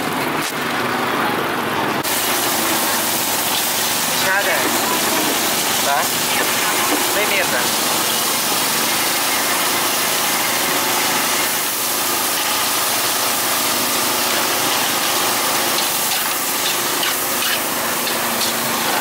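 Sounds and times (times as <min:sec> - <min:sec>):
engine running: 0:00.0 - 0:19.0
street noise hiss: 0:00.0 - 0:19.0.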